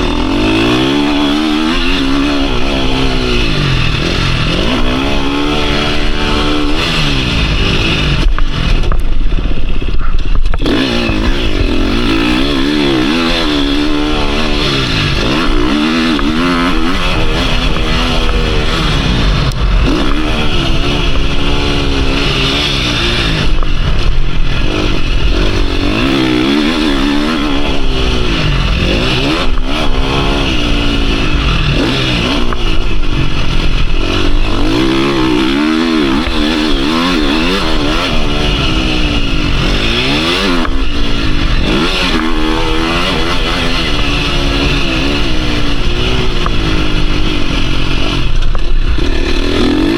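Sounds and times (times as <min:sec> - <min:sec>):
motocross engine revving: 0:00.0 - 0:49.9.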